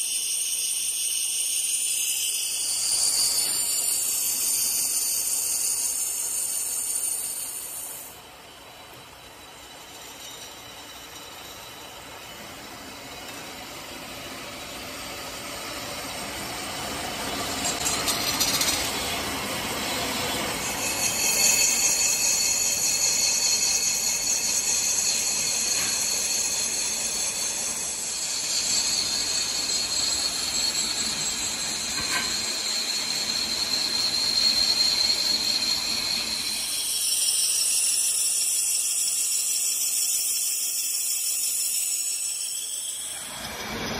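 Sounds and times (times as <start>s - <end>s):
metal lathe cutting with ringing hiss: 0.0s - 43.9s.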